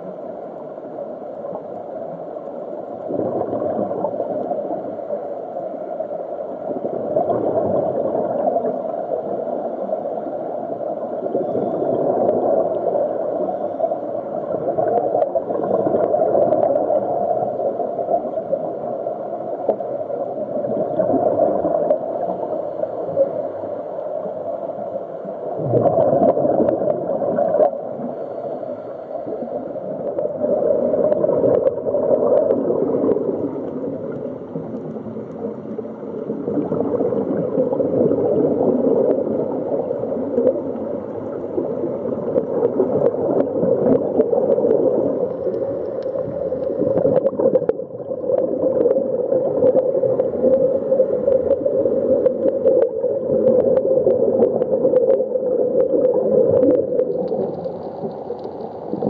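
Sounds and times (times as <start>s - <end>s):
underwater air bubbling: 0.0s - 59.0s.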